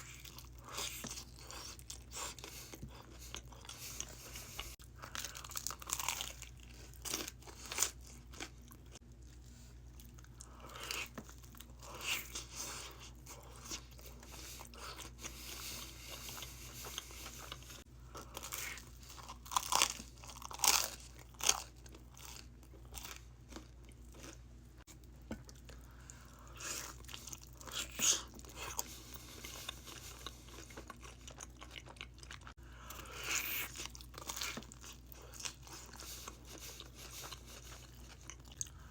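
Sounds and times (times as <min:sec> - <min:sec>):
crunchy food crunching: 0:00.0 - 0:24.5, 0:25.4 - 0:38.9
person chewing: 0:00.0 - 0:38.9.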